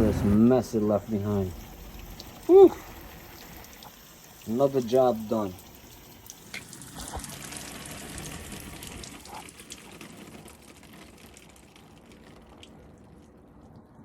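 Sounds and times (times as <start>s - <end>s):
water rushing down a pipe: 0.0s - 14.0s.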